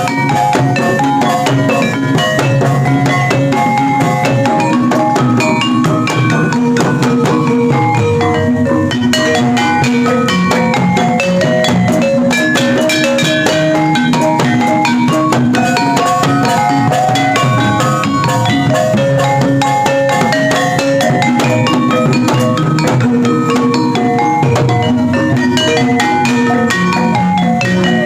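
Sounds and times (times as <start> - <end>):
continuous drumming: 0.0 - 28.0
tuned metal percussion: 0.0 - 28.0.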